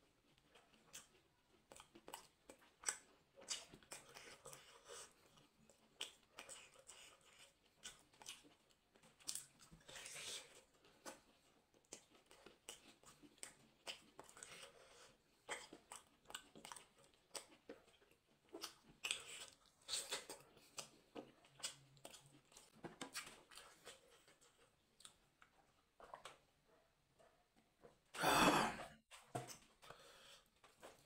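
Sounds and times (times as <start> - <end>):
wet chewing smacks and clicks: 0.0 - 26.6.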